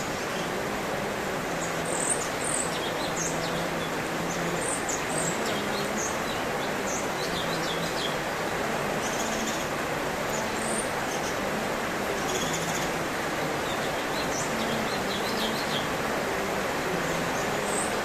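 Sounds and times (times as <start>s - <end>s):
background hiss: 0.0s - 18.0s
songbird chirping: 0.0s - 18.0s.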